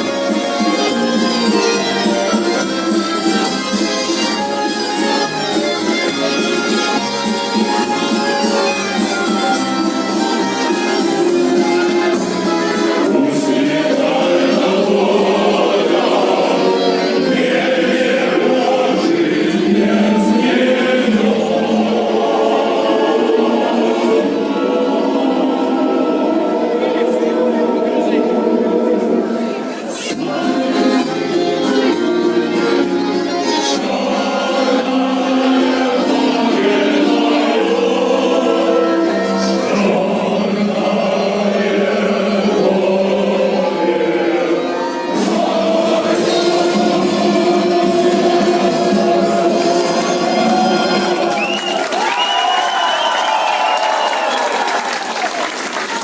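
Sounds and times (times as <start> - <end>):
choir singing: 6.9 - 56.0.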